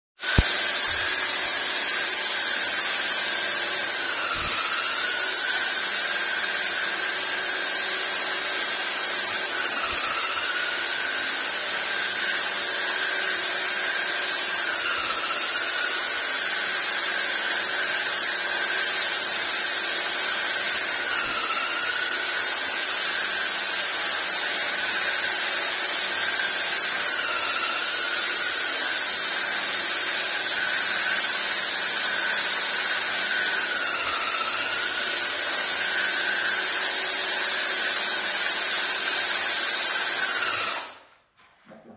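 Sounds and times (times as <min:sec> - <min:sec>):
paint sprayer whining: 0:00.2 - 0:41.9.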